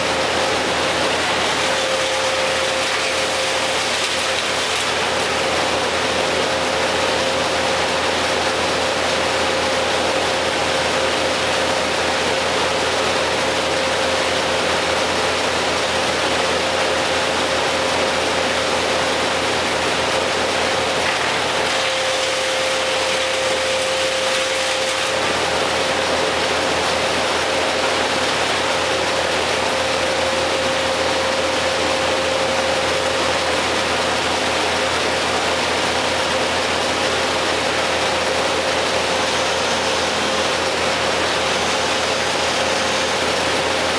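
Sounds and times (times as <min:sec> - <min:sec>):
heavy machinery running: 0:00.0 - 0:43.9.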